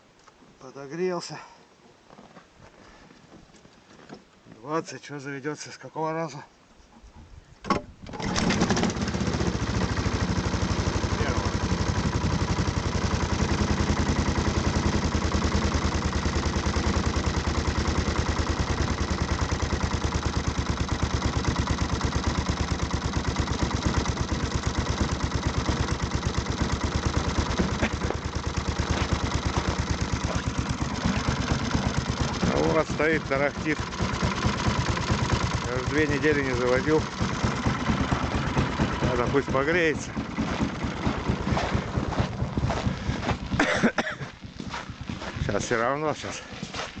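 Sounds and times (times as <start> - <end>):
snowmobile engine idling: 8.2 - 47.0.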